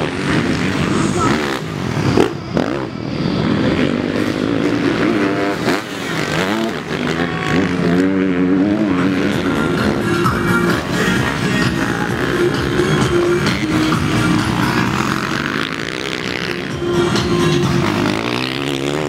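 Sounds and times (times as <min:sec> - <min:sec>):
motocross engines revving: 0:00.0 - 0:19.0.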